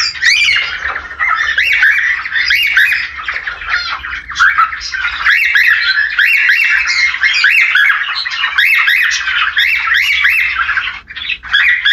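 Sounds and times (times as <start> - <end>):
cockatiels chattering and whistling: 0.0 - 11.9.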